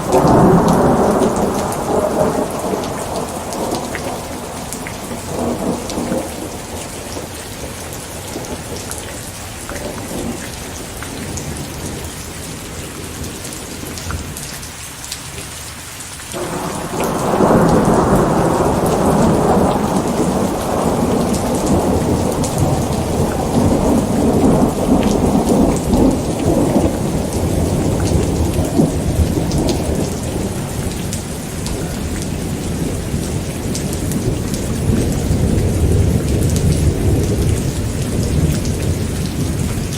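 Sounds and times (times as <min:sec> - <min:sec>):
thunder rolling: 0:00.0 - 0:09.1, 0:16.4 - 0:39.9
steady rain: 0:00.0 - 0:39.9.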